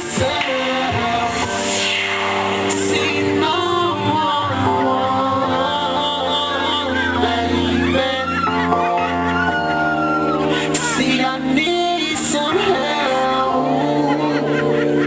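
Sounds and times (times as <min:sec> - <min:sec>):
song with singing: 0:00.0 - 0:15.0.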